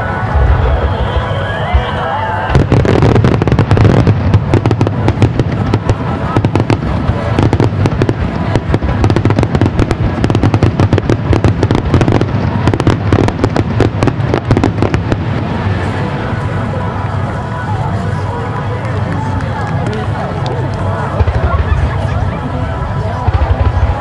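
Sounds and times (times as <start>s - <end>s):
continuous low rumble: 0.0s - 24.0s
fireworks bangs and crackles: 0.0s - 24.0s.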